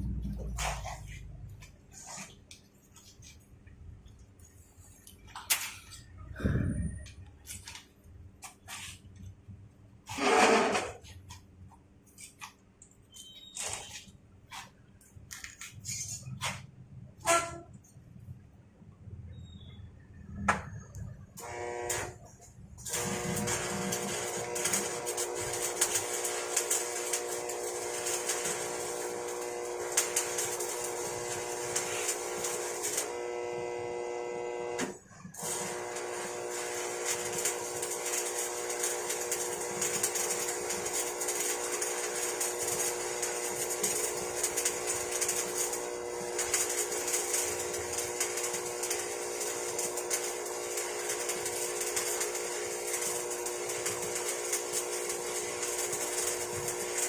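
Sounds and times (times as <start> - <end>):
welding arc crackling and sizzling: 0.0 - 9.4, 10.0 - 18.0, 20.5 - 57.0.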